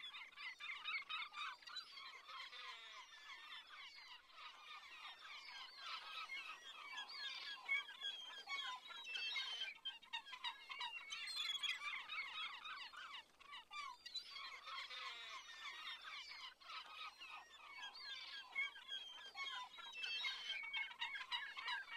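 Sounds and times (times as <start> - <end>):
birds singing and chirping: 3.3 - 21.9.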